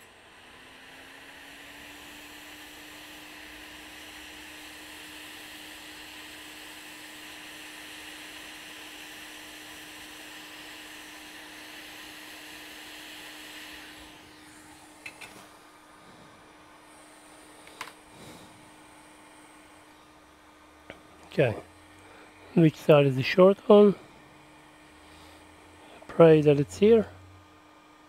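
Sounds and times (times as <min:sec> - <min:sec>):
hot air blower hiss: 0:00.0 - 0:28.0
low fan hum: 0:00.0 - 0:28.0.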